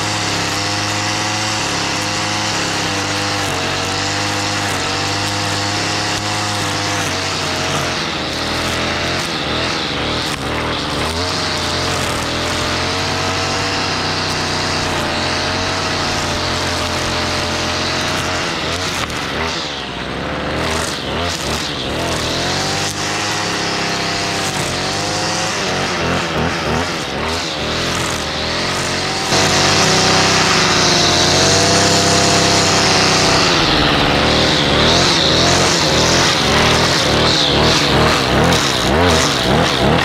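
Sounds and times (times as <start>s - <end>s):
string trimmer engine revving: 0.0s - 40.0s.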